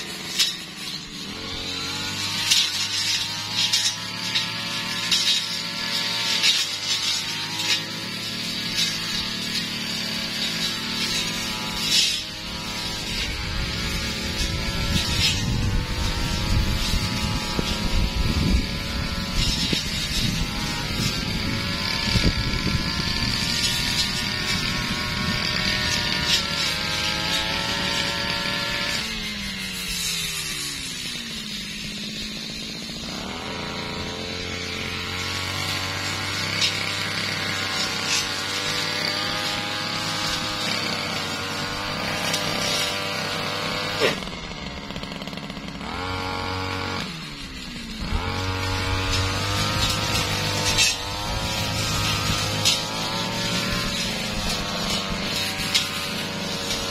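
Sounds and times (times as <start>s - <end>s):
brush cutter engine running: 0.0s - 56.9s.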